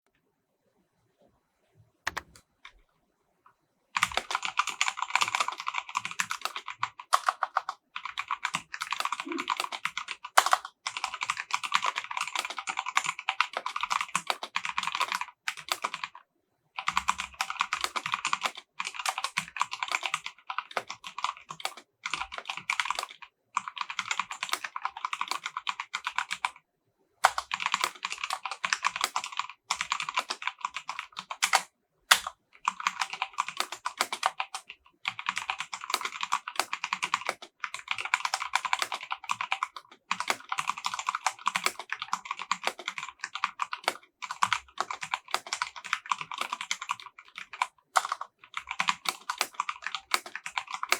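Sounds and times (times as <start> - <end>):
fast typing on mechanical keyboard: 2.1 - 2.4, 4.0 - 16.2, 16.8 - 26.6, 27.2 - 50.9.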